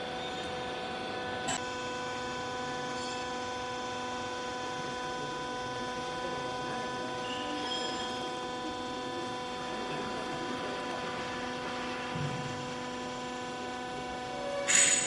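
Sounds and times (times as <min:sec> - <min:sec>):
baler power unit humming: 0:00.0 - 0:15.0.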